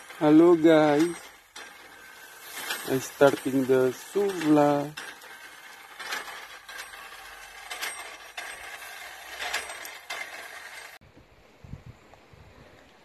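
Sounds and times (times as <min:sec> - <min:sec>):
metallic clinks: 0:00.0 - 0:11.0
rotisserie hissing: 0:00.0 - 0:11.0.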